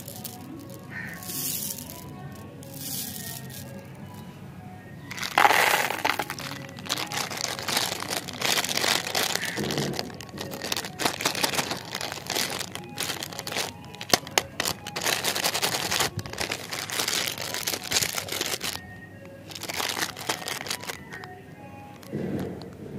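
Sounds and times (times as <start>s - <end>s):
plastic wrapper crinkling: 0.0s - 4.2s, 5.1s - 22.7s
faint background music: 0.0s - 22.9s.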